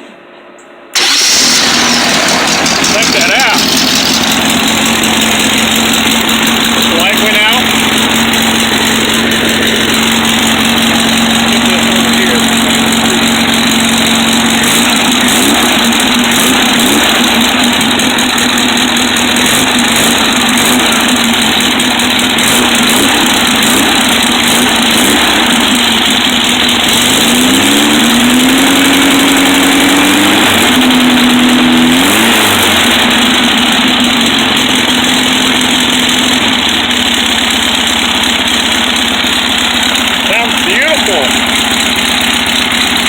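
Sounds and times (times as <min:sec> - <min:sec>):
car engine idling and revving: 0:01.0 - 0:43.0.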